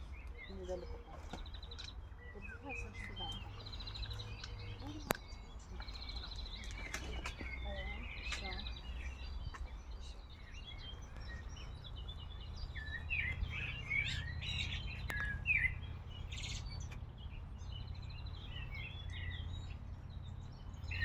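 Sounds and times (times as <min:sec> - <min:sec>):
low background rumble: 0:00.0 - 0:21.0
songbirds chirping and twittering: 0:00.0 - 0:21.0.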